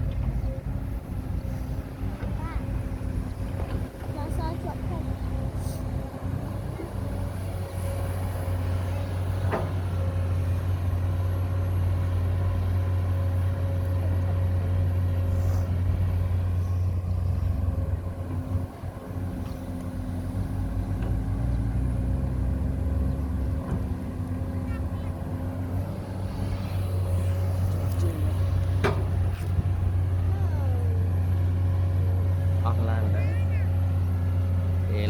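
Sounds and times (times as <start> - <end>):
heavy machinery engine humming: 0.0 - 35.0.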